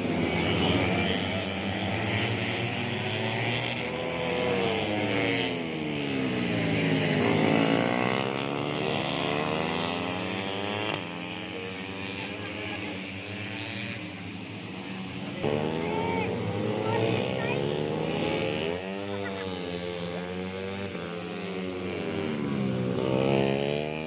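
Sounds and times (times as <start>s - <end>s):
motorcycles revving: 0.0s - 24.0s.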